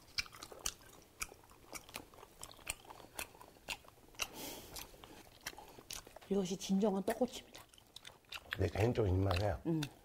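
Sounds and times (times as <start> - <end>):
close chewing with mouth clicks: 0.0 - 10.0.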